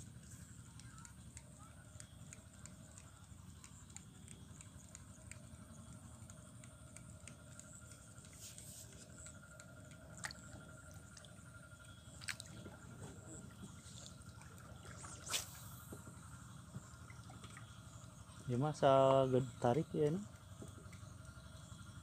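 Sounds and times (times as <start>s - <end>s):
faint clicks and ticks: 0.0s - 22.0s.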